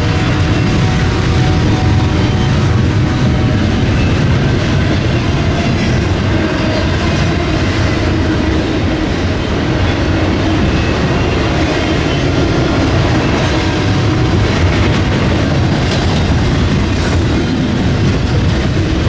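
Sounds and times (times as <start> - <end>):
freight train cars rumbling past: 0.0 - 19.0.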